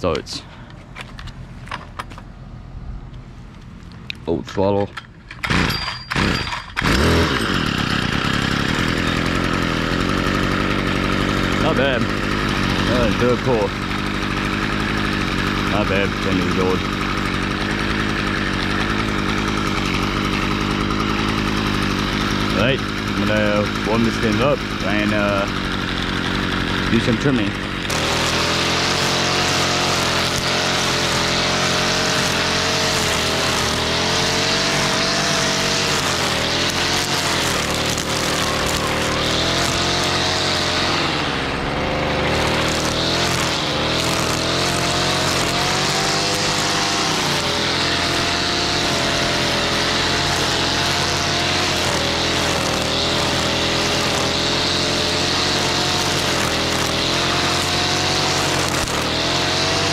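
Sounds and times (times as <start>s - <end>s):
string trimmer engine running: 5.0s - 59.9s.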